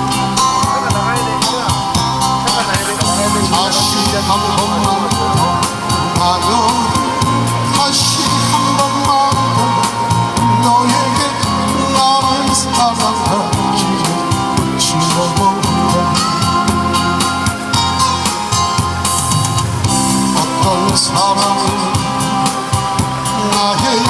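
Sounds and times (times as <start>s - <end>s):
man singing into a microphone: 0.0s - 17.4s, 20.1s - 24.0s
electronic accompaniment with beat: 0.0s - 24.0s.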